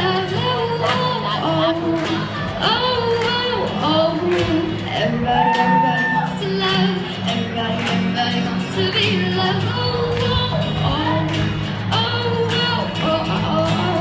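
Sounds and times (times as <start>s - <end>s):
acoustic guitars strummed: 0.0s - 14.0s
girl singing: 0.0s - 14.0s.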